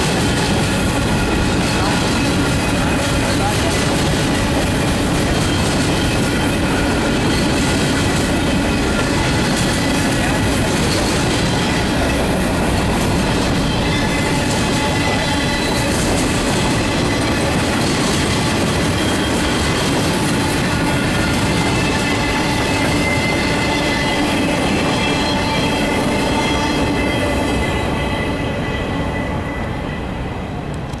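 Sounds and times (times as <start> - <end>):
train wheels rumbling and clattering: 0.0 - 31.0
high wheel squeal: 0.6 - 30.2.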